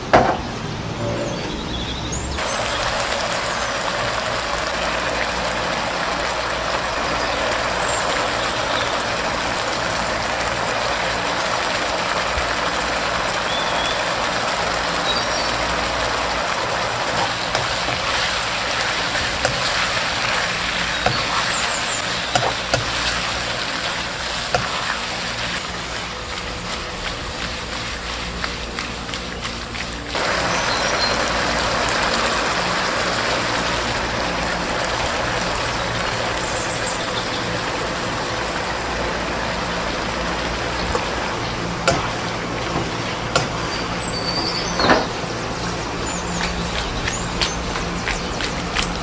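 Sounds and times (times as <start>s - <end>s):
food sizzling in oil: 2.4s - 44.8s
oil crackling and popping: 2.4s - 49.0s.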